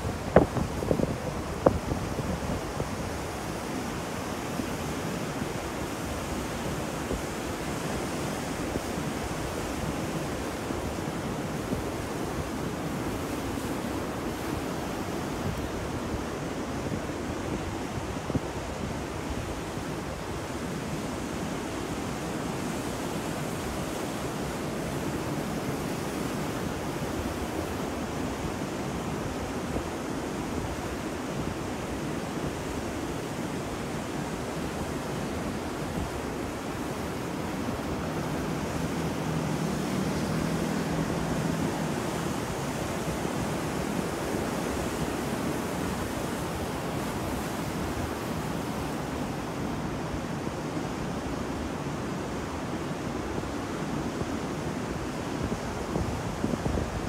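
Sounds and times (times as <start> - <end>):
sea surf breaking on beach: 0.0 - 57.0.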